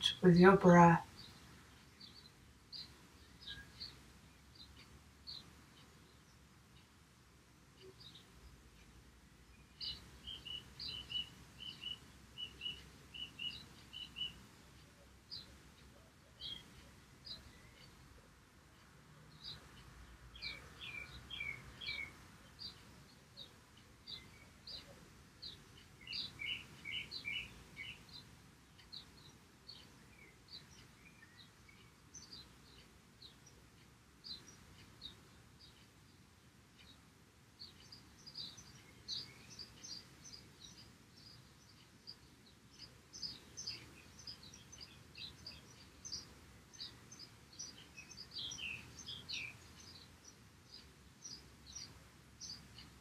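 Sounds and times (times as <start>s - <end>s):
faint bird chirping: 0.0s - 53.0s.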